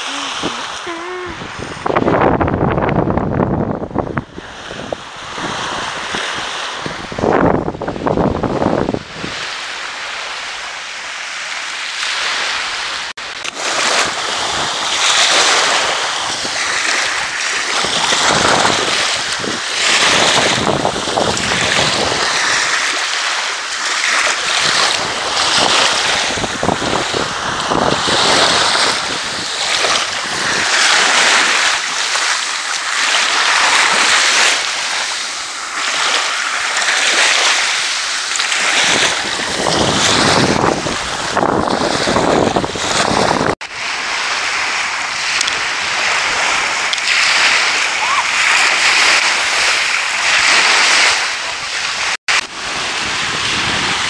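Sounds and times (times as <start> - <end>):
wind buffeting microphone: 0.0 - 10.4, 12.3 - 54.0
small waves washing on shells: 9.3 - 43.2, 43.8 - 54.0.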